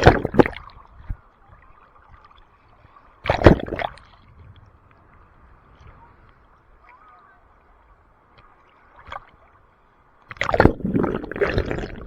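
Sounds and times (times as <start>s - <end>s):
seawater splashing: 0.0s - 12.0s
surf washing: 0.0s - 12.0s.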